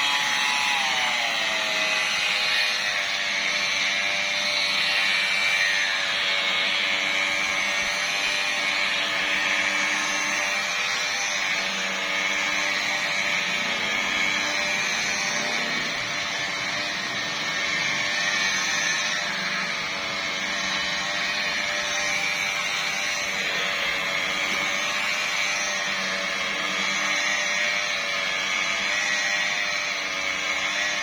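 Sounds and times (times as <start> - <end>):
car polishing machine motor hum: 0.0 - 31.0.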